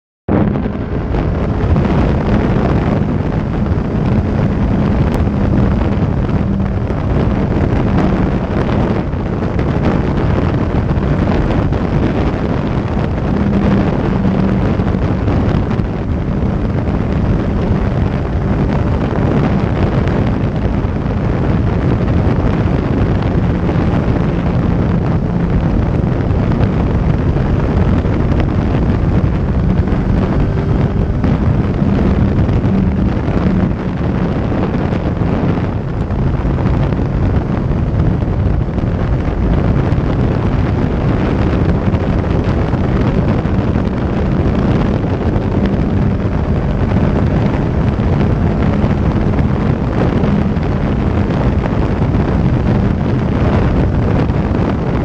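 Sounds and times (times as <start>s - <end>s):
motorcycle engine running: 0.3s - 55.0s
wind rushing over microphone: 0.3s - 55.0s.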